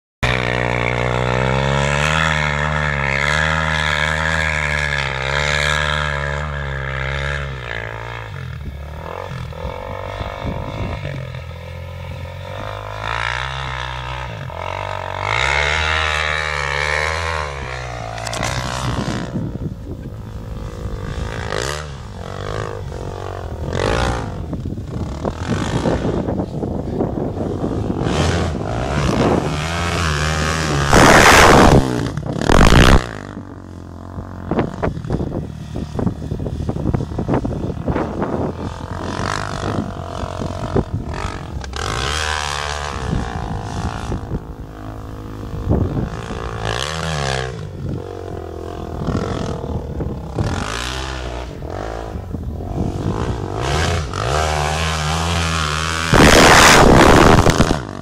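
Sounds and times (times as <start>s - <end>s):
motorbike engine revving: 0.2s - 58.0s.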